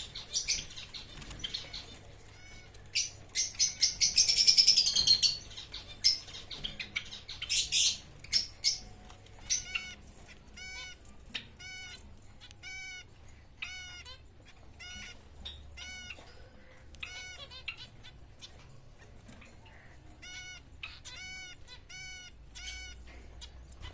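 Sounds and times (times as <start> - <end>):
pet birds chirping rapidly: 0.0 - 23.9.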